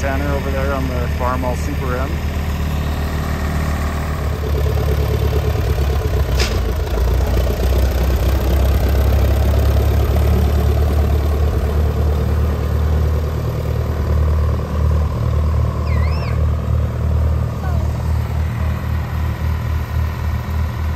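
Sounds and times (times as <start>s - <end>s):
tractor engine rumbling: 0.0s - 20.9s.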